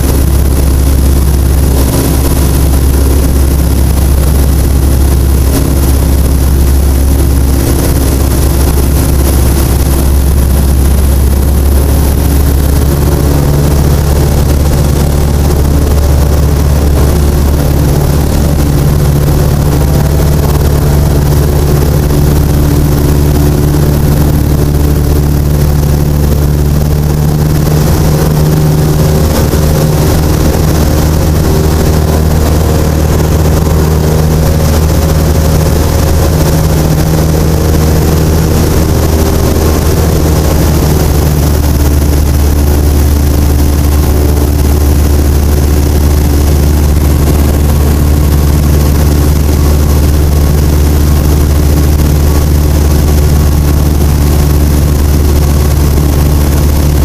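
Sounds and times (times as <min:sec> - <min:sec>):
light plane engine droning: 0:00.0 - 0:57.0.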